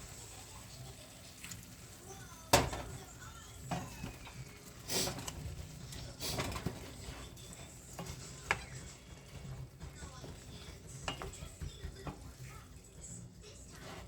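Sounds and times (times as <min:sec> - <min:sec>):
utensils clinking against a pan: 0:02.5 - 0:14.0.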